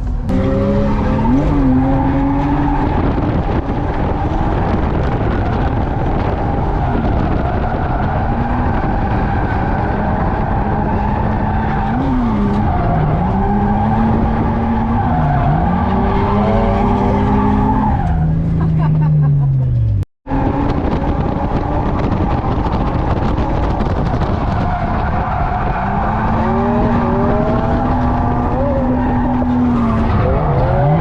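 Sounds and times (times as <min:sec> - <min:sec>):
car engine revving: 0:00.0 - 0:31.0
tyres skidding: 0:00.0 - 0:31.0.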